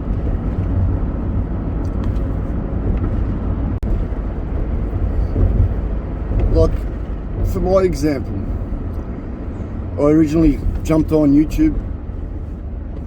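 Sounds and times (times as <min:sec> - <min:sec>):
motor vehicle engine rumbling: 0:00.0 - 0:13.0.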